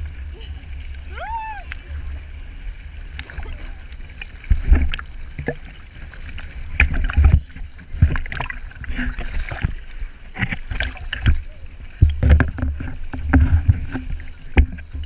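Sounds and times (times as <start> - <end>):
low rumble of water buffeting: 0.0 - 15.0
sea water sloshing and splashing: 0.0 - 15.0.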